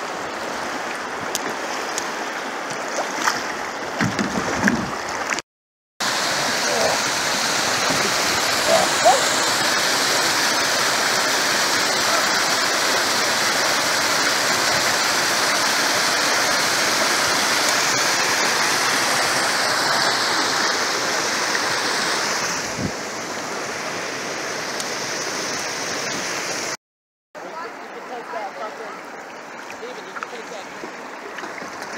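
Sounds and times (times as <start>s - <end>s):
stream rushing over rocks: 0.0s - 5.4s, 6.0s - 26.8s, 27.4s - 31.9s.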